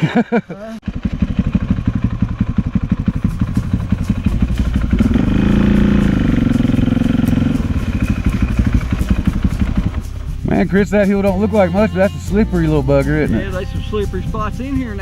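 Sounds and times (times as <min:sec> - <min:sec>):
dirt bike engine revving: 0:00.8 - 0:13.7.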